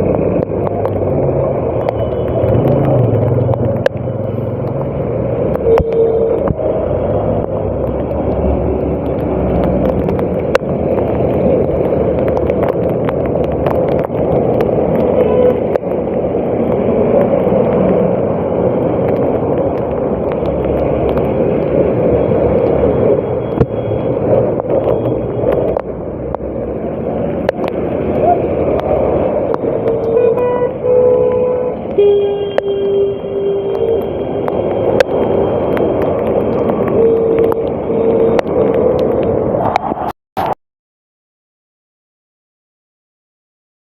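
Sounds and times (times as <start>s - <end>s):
vehicle rumble and road noise: 0.0s - 40.6s.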